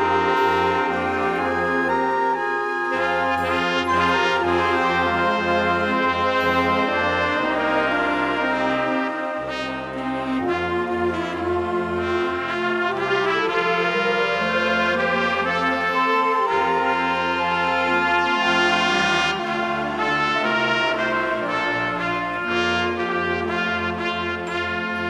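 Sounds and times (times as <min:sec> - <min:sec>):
wind ensemble playing chords: 0:00.0 - 0:25.0.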